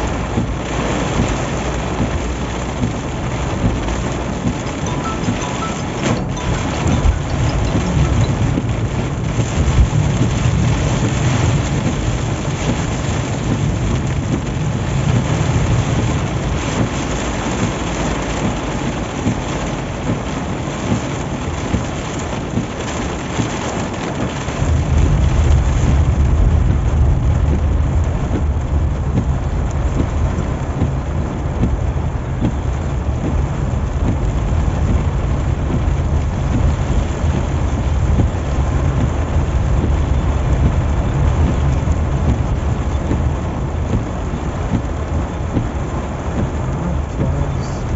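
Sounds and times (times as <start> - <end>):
heavy rain on a car: 0.0 - 47.9
road and engine rumble: 0.0 - 47.9.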